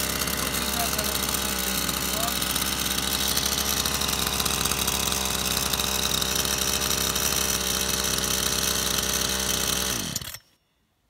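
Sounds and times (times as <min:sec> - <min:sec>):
chainsaw running: 0:00.0 - 0:10.6.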